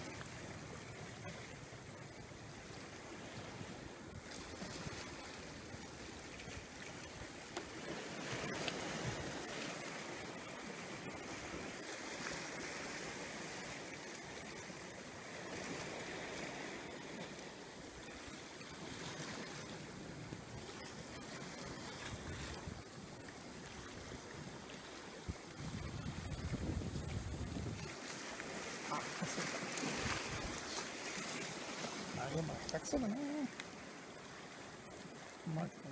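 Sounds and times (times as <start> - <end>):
wind and sea wash: 0.0 - 35.9.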